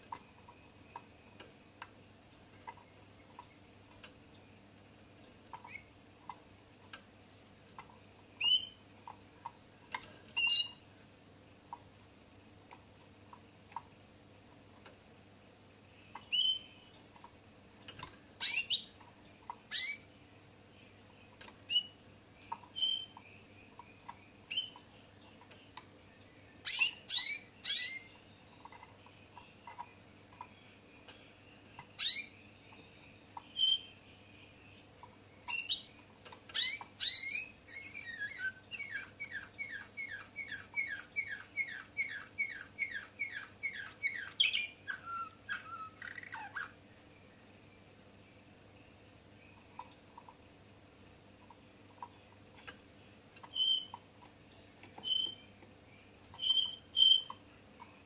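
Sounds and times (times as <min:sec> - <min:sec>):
canary chirping: 0:00.0 - 0:14.0, 0:15.9 - 0:46.9, 0:48.8 - 0:50.5, 0:51.3 - 0:58.0
canary song trill: 0:00.0 - 0:58.0.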